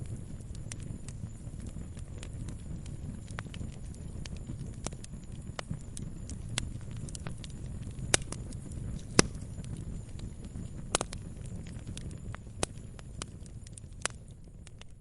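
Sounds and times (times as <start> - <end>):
flames rumbling: 0.0 - 15.0
sharp fire pops: 0.0 - 15.0
wood fire crackling: 0.0 - 15.0.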